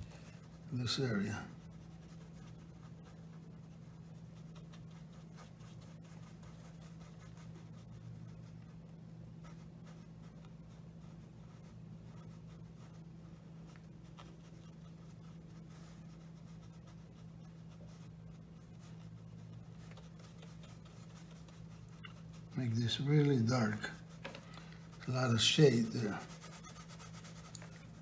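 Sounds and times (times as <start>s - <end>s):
brush scratching on paper: 0.0s - 28.0s.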